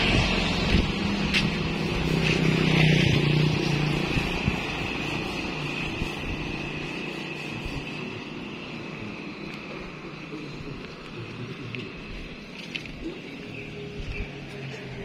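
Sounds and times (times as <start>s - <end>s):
passing vehicle engine: 0.0s - 15.0s.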